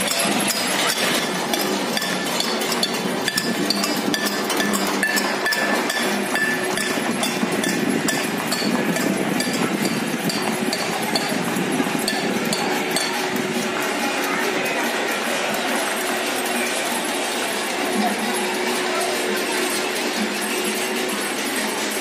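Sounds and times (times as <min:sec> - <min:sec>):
metal plates banging: 0:00.0 - 0:18.1
bells ringing: 0:00.0 - 0:22.0
people clapping: 0:00.0 - 0:22.0.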